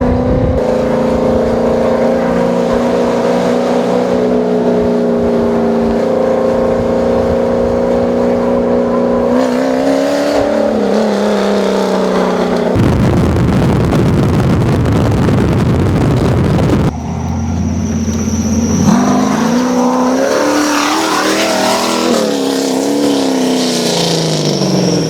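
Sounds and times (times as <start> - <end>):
race engine at high revs: 0.0 - 13.0, 13.6 - 25.0.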